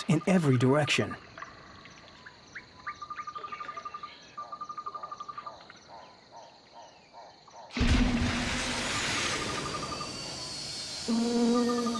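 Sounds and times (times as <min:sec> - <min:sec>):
insects trilling: 0:00.0 - 0:11.9.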